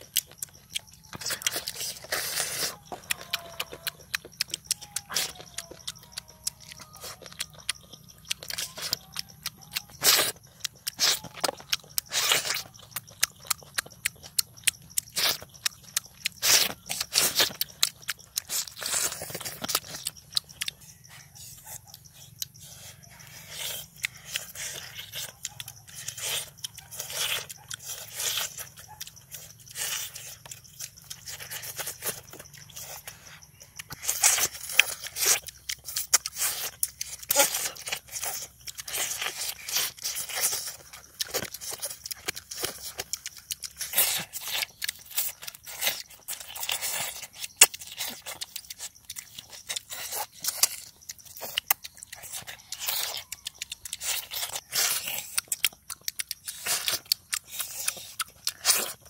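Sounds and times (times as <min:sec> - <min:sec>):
crunching and chewing: 0:00.0 - 0:59.0.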